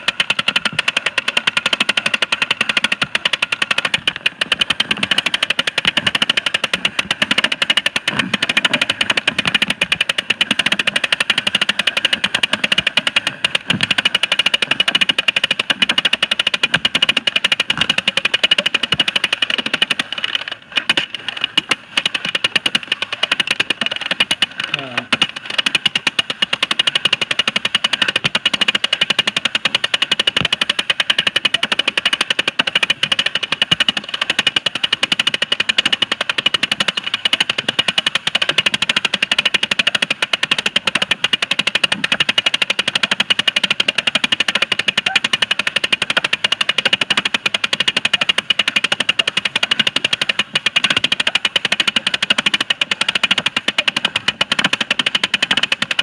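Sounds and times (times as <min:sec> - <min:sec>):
toy film viewer mechanism clicking: 0:00.0 - 0:56.0.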